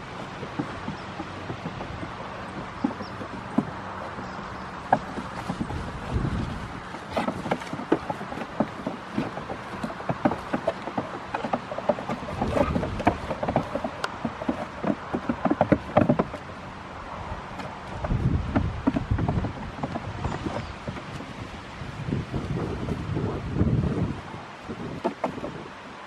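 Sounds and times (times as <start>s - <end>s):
hooves clattering on wood: 0.0s - 26.0s.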